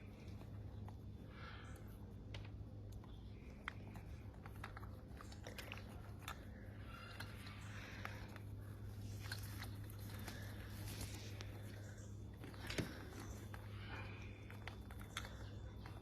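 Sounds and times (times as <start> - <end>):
parrot beak clicking and crunching: 0.0 - 16.0
steady low hum: 0.0 - 16.0.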